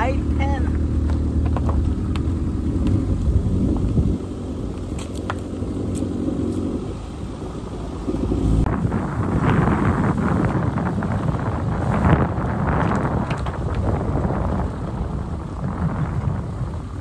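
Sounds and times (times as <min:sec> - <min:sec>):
car engine running: 0:00.0 - 0:17.0
road rumble: 0:00.0 - 0:17.0.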